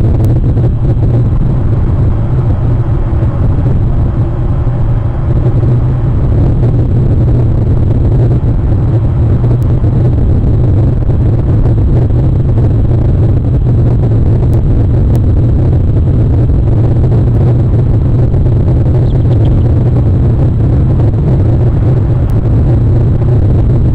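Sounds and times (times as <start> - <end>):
loud low rumble: 0.0 - 23.9.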